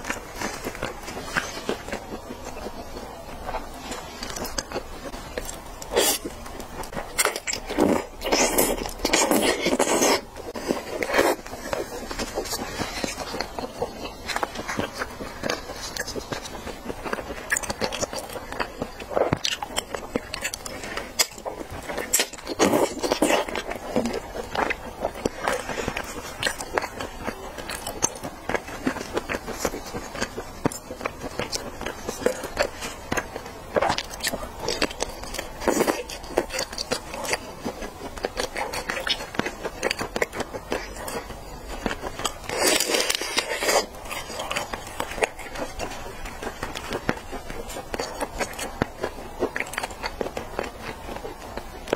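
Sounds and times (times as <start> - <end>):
sucking and biting: 0.0 - 51.9
wet mouth eating sounds: 0.0 - 51.9.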